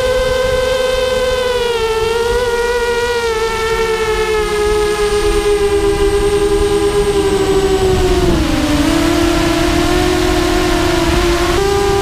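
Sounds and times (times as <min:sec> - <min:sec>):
drone propellers whining: 0:00.0 - 0:12.0
rumble of air noise: 0:00.0 - 0:12.0.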